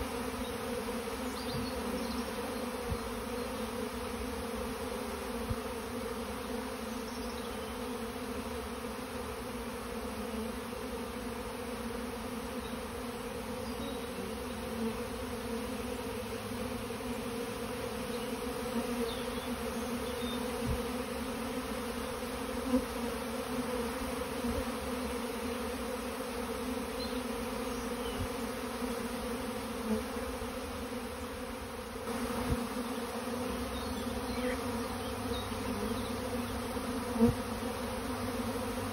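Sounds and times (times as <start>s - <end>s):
bees buzzing: 0.0s - 38.9s.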